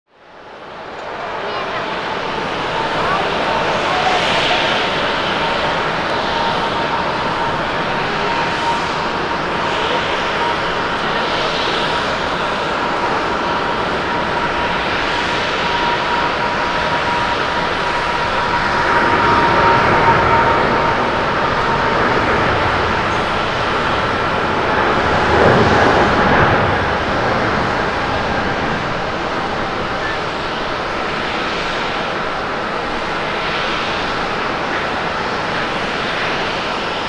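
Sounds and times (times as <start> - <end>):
jet engine whine: 0.1 - 37.0
jet engines at takeoff power: 0.1 - 37.0.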